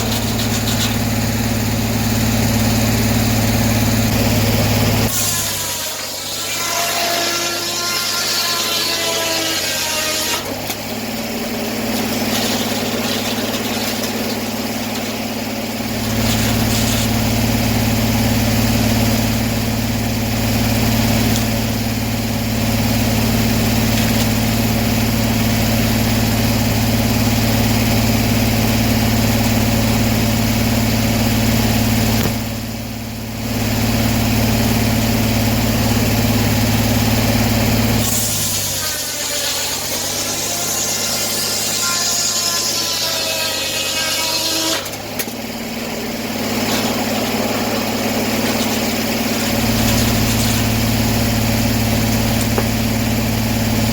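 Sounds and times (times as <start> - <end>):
saw cutting log: 0.0 - 32.7, 33.5 - 53.9
sawmill engine running: 0.0 - 53.9.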